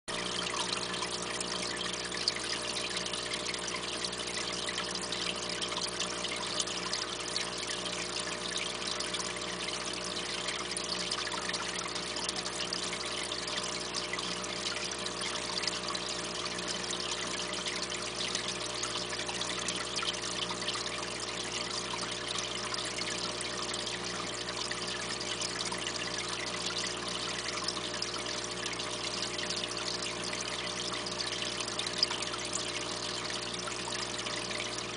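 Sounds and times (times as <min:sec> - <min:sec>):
aquarium water trickling: 0:00.1 - 0:34.9.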